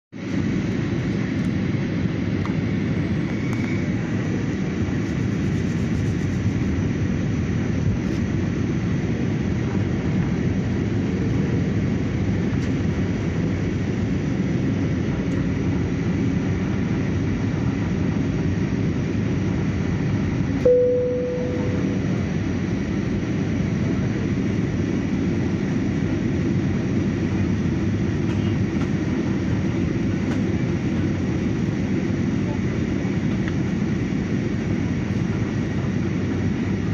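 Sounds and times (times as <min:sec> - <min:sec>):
plane cabin roar: 0:00.2 - 0:36.9.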